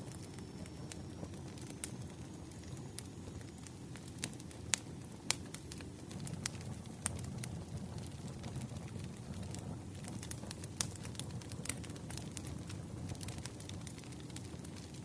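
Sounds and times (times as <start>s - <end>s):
low rumble of flames: 0.0s - 15.0s
wood crackling and popping: 0.0s - 15.0s.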